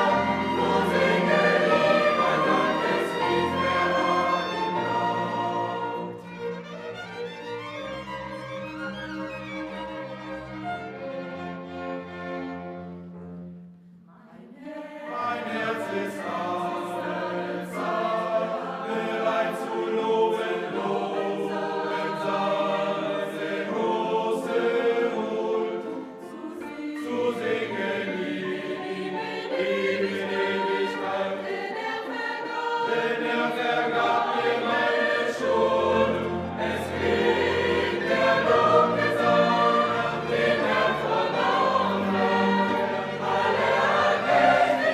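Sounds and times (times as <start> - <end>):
choir with orchestra: 0.0 - 44.9.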